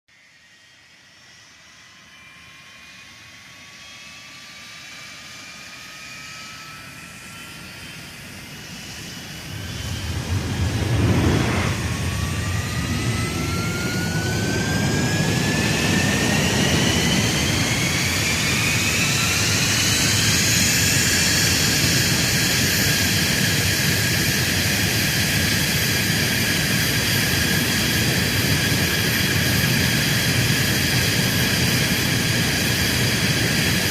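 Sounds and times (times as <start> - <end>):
jet turbine whine: 0.1 - 33.9
jet engine low rumble: 0.3 - 33.9.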